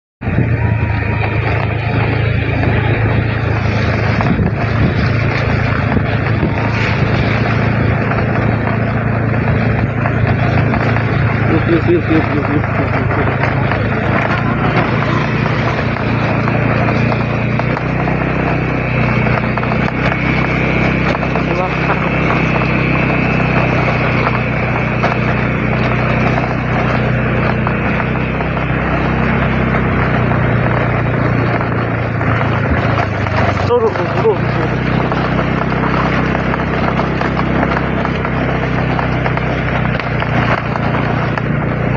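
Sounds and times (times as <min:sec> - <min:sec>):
vehicle engine running: 0:00.2 - 0:41.9
wind and road noise: 0:00.2 - 0:41.9.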